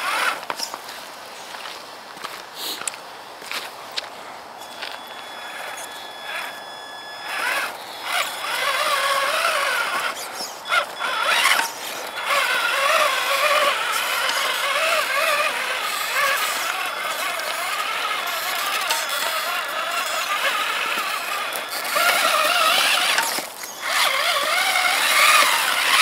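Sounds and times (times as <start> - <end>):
electric motor whining: 0.0 - 0.4, 4.6 - 26.0.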